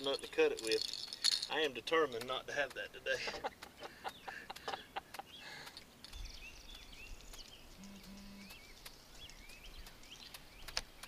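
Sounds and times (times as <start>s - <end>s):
small birds chirping: 0.0s - 11.0s
sharp clicks: 2.1s - 11.0s.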